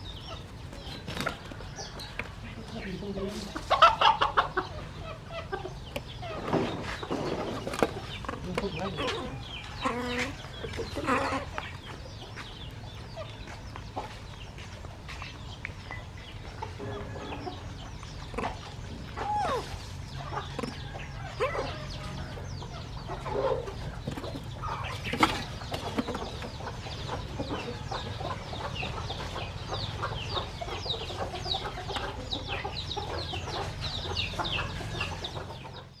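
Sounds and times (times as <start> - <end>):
chickens clucking: 0.0 - 36.0
small birds chirping: 0.0 - 36.0.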